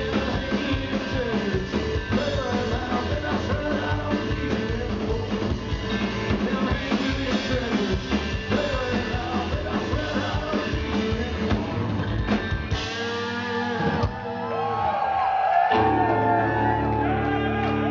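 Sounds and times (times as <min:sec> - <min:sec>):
rock band playing: 0:00.0 - 0:17.9.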